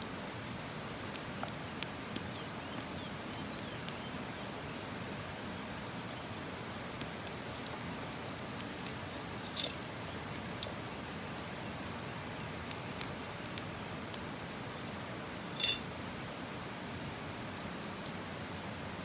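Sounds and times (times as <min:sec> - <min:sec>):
low fire hiss: 0:00.0 - 0:19.0
campfire crackling and popping: 0:00.4 - 0:18.8.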